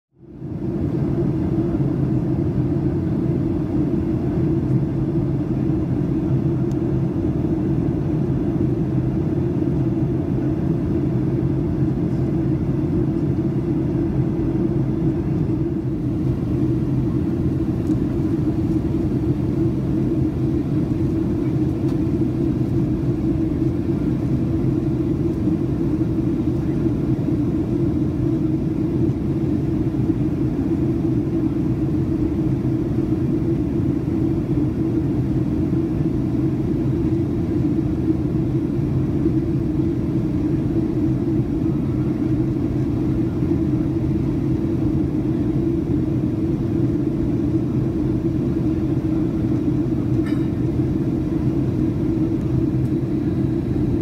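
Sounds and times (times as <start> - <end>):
jet airliner cabin drone: 0.1 - 54.0.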